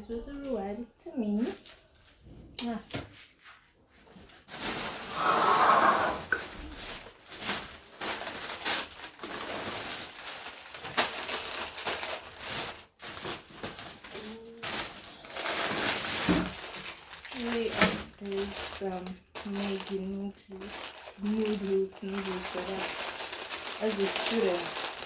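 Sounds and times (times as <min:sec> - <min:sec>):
plastic bags rustling: 0:00.1 - 0:02.8, 0:03.9 - 0:25.0.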